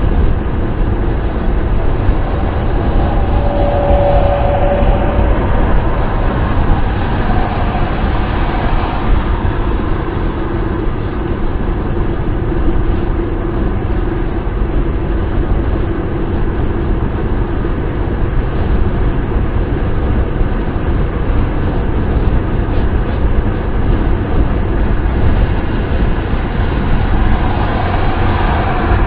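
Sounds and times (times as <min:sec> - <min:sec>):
car wind and road noise: 0:00.0 - 0:29.0.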